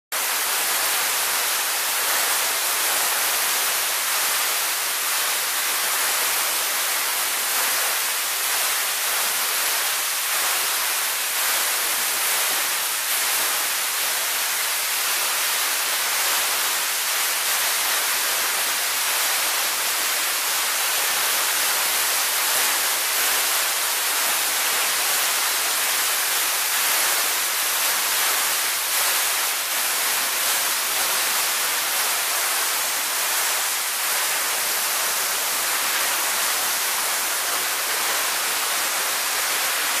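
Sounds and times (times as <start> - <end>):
waterfall rushing into pool: 0.2 - 40.0.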